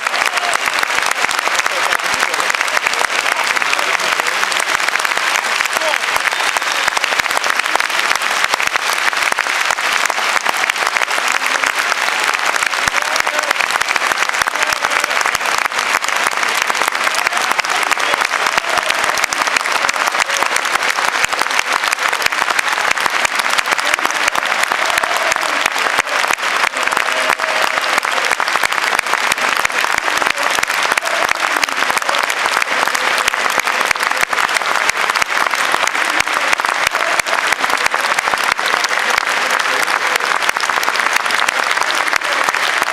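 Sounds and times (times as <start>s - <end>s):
stadium crowd clapping: 0.0s - 42.9s.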